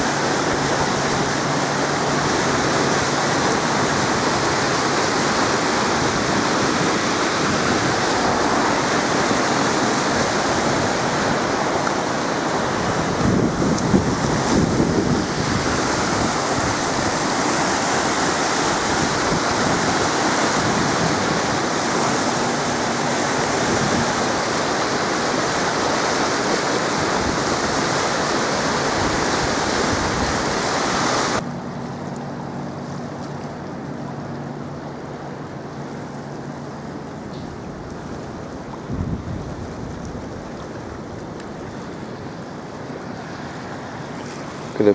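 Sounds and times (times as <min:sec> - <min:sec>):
water rushing through dam gates: 0:00.0 - 0:44.9.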